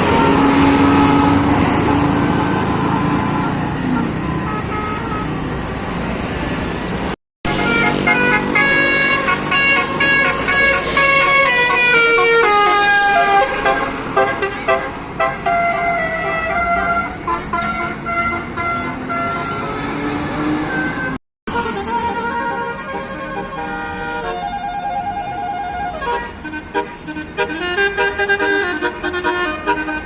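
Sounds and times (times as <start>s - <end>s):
multi-tone bus horn melody: 0.0s - 6.2s, 7.4s - 30.0s
bus engine: 0.0s - 30.0s
road noise: 0.0s - 30.0s.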